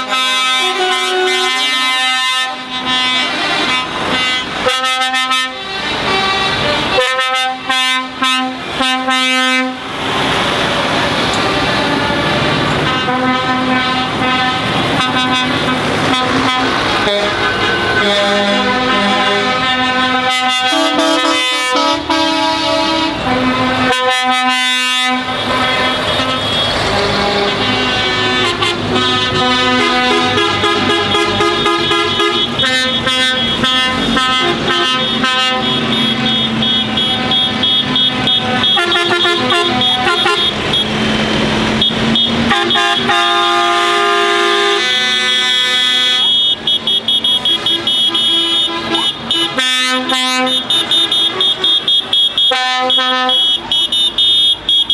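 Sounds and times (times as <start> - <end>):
truck air horns honking: 0.0 - 54.9
truck engines running: 0.0 - 54.9.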